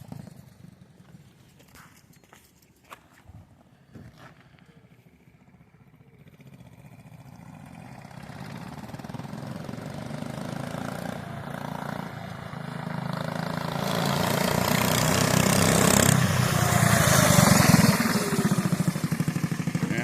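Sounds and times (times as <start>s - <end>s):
small engine approaching: 0.0s - 20.0s.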